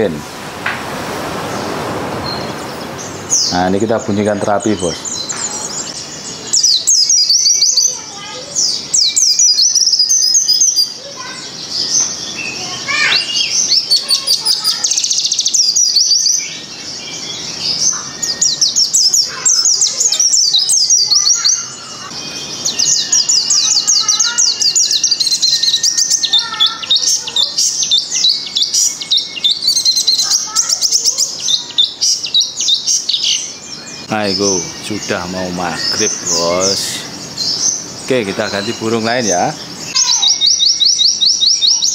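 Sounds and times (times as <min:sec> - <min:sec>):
bird twittering trills: 0:00.0 - 0:41.9.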